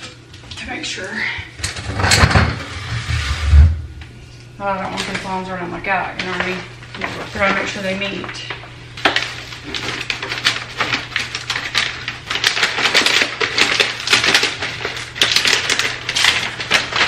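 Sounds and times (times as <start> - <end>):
vinyl wallpaper crackling: 2.2 - 17.0.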